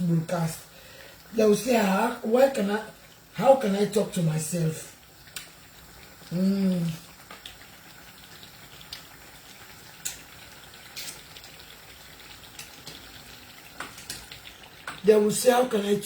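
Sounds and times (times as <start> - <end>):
sauce simmering with pops: 0.0 - 15.8.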